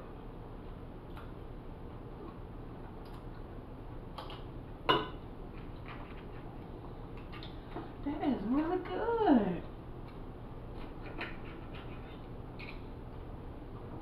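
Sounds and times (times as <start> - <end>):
quiet chewing: 0.5 - 4.7, 5.4 - 8.7, 9.6 - 14.0.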